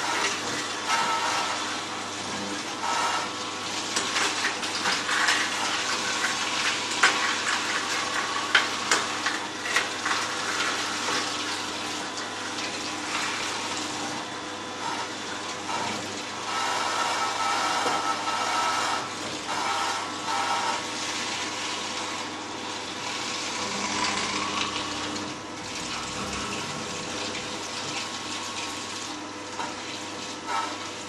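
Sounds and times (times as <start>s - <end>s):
juicer grinding: 0.0s - 31.0s.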